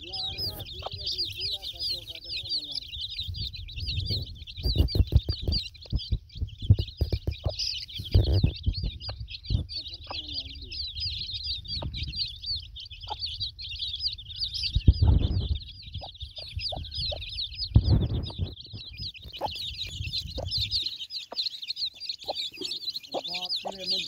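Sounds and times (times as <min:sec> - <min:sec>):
low rumbling bursts: 0:00.0 - 0:20.8
chicks peeping: 0:00.0 - 0:24.0
hen clucking: 0:00.0 - 0:24.0.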